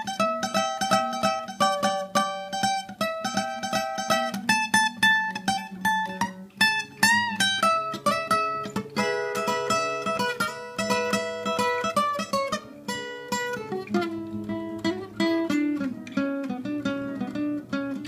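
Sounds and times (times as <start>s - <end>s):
acoustic guitar fingerstyle: 0.0s - 18.0s.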